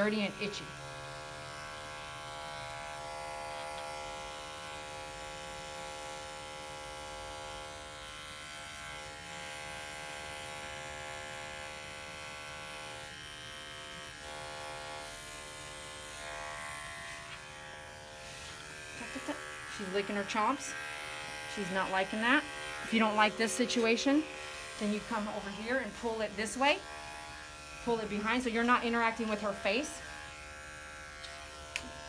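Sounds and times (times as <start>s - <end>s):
electric clippers buzzing: 0.0s - 32.0s.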